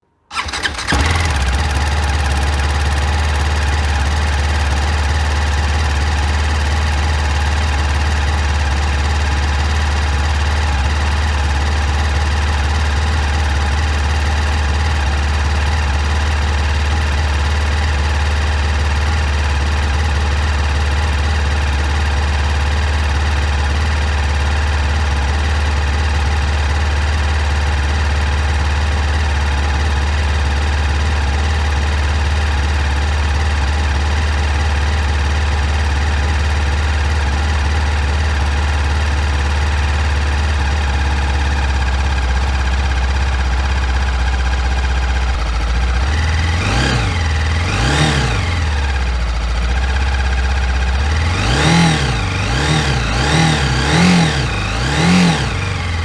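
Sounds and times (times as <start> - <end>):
motorcycle engine idling: 0.3 - 56.0.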